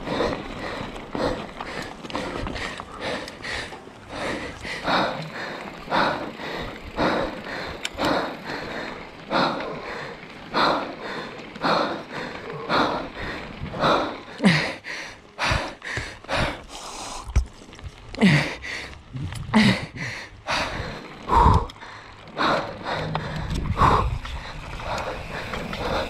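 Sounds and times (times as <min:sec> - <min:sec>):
person breathing hard: 0:00.0 - 0:17.4, 0:18.1 - 0:26.0
tyres rattling on gravel: 0:00.0 - 0:26.0.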